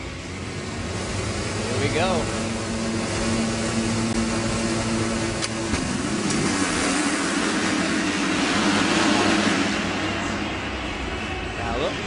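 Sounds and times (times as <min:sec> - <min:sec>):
motocross bikes revving: 0:00.8 - 0:12.0.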